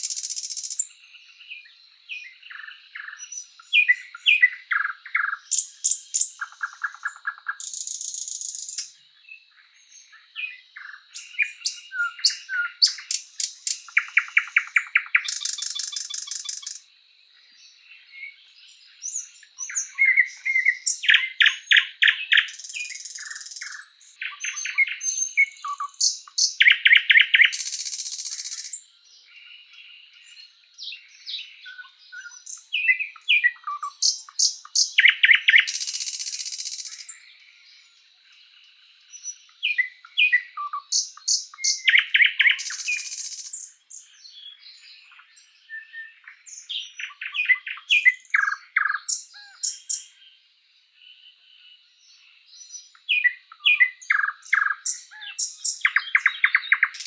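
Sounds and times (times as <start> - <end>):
bird singing rapid notes: 0.0 - 16.9, 17.7 - 38.0, 38.6 - 50.2, 52.6 - 57.0.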